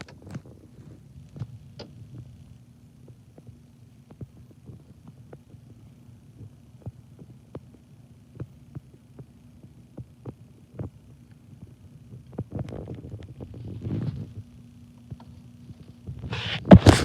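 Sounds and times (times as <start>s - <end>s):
furnace humming: 0.0s - 17.0s.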